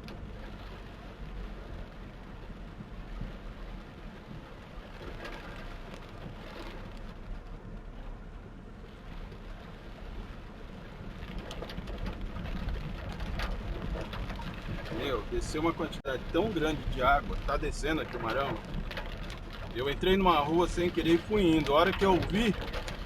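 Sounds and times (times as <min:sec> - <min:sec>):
torrential rain falling: 0:00.0 - 0:23.0.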